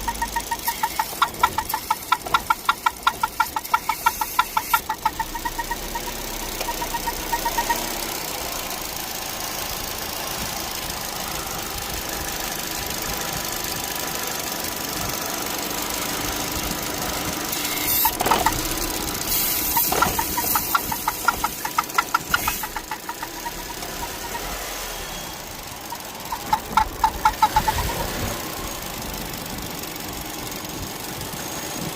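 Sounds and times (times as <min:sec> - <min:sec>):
car engine running: 0:00.0 - 0:31.9
rapid rhythmic engine ticking: 0:00.0 - 0:31.9.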